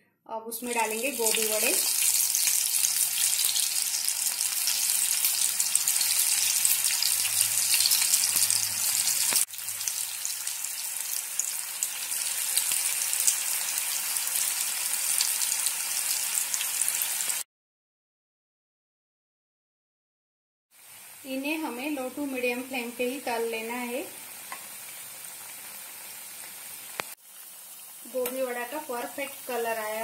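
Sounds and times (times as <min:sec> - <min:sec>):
food sizzling in hot oil: 0:00.6 - 0:17.5, 0:20.7 - 0:30.0.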